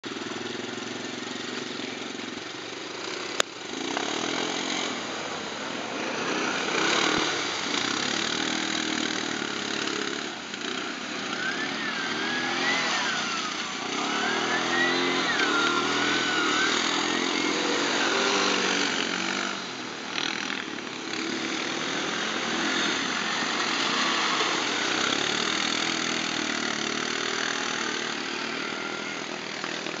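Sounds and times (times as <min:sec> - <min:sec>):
quad bike engines revving: 0:00.0 - 0:30.0.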